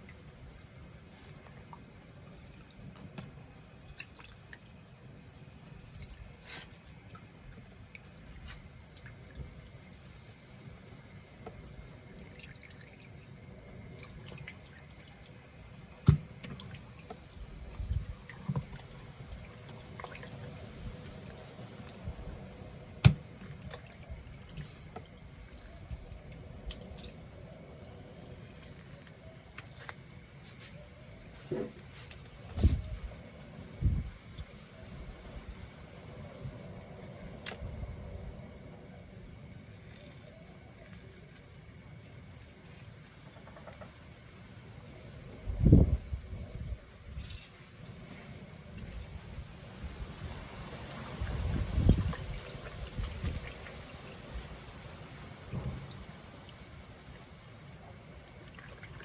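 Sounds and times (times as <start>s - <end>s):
liquid dripping and trickling: 0.0s - 11.2s, 12.0s - 38.3s, 47.0s - 59.0s.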